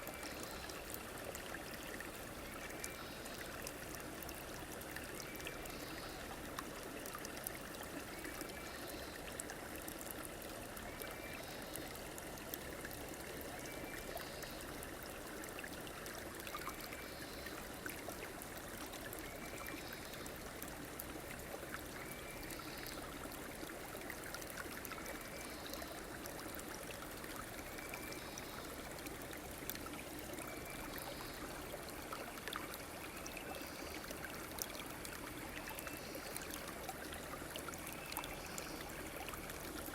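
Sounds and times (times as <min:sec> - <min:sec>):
river flowing and trickling: 0:00.0 - 0:39.9.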